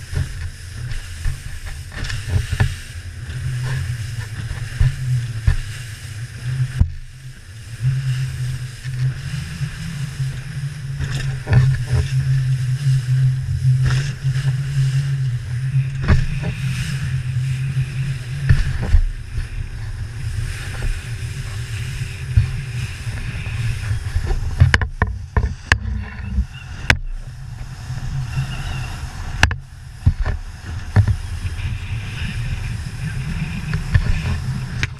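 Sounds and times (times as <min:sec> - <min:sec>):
hull thumping on waves: 0:00.0 - 0:34.9
outboard engine running: 0:00.0 - 0:34.9.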